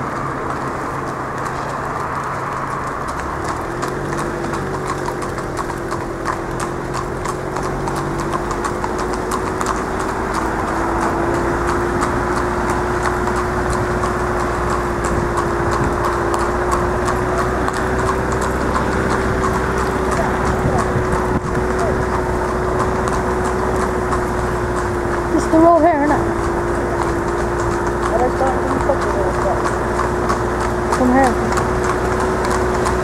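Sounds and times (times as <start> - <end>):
horse hooves clip-clopping on tarmac: 0.0 - 33.0
vehicle engine humming: 0.0 - 33.0.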